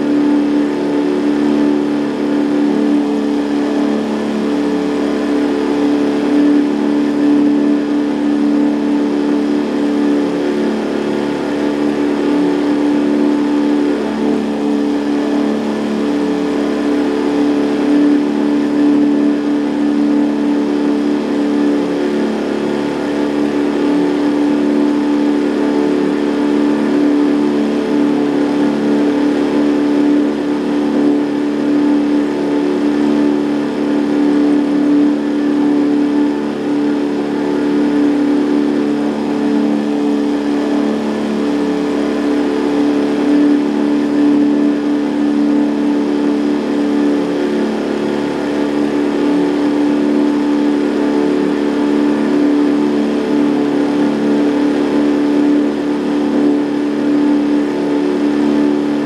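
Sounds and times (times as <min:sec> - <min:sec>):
outboard motor humming: 0:00.0 - 0:59.0.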